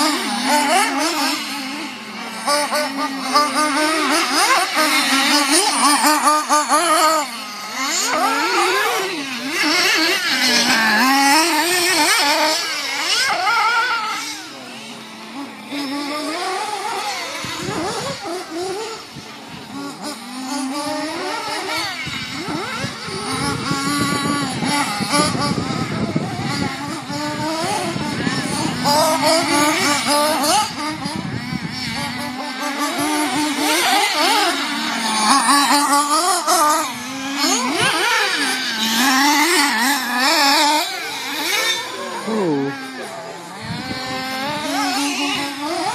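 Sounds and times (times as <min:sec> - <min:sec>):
toy car motor revving: 0:00.0 - 0:45.9.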